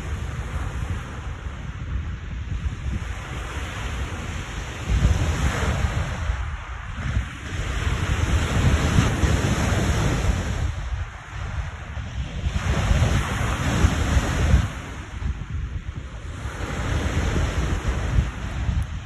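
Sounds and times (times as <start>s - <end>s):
waves crashing on shore: 0.0s - 19.0s
wind buffeting microphone: 0.0s - 19.0s.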